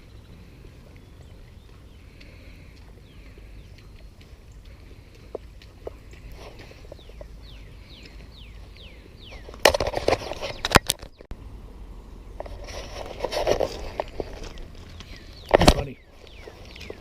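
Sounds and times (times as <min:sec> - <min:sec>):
outdoor background: 0:00.0 - 0:17.0.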